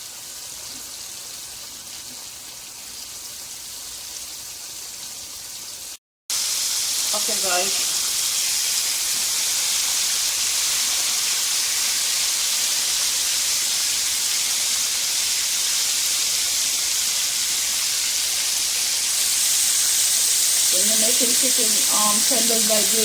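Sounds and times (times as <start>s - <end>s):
chicken frying in hot oil: 0.0s - 23.0s.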